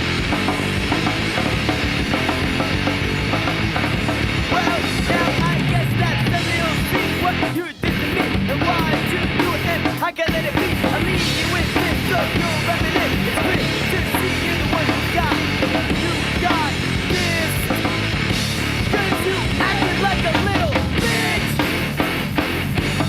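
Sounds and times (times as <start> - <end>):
bass guitar: 0.0 - 23.0
drum kit: 0.0 - 23.0
electric guitar: 0.0 - 23.0.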